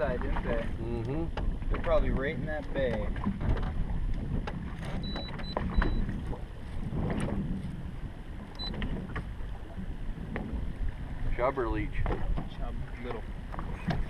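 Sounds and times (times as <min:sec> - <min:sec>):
water against boat hull: 0:00.0 - 0:14.0
wind buffeting microphone: 0:00.0 - 0:14.0.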